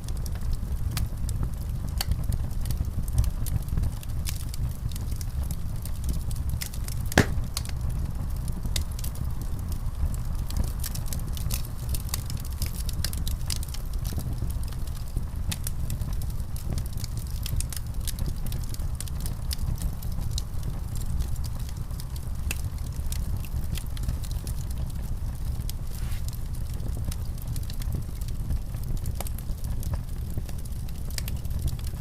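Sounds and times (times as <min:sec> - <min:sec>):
wood fire crackling in fireplace: 0:00.0 - 0:32.0.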